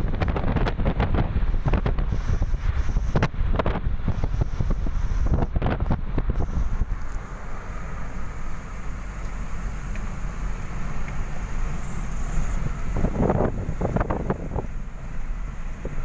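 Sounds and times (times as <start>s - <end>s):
wind buffeting microphone: 0.0s - 7.5s, 9.4s - 16.0s
car driving rumble from inside: 0.0s - 16.0s.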